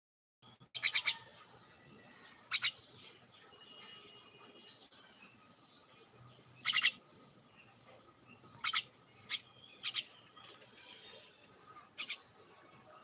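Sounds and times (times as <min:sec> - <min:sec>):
bird chirping: 0:00.4 - 0:13.0.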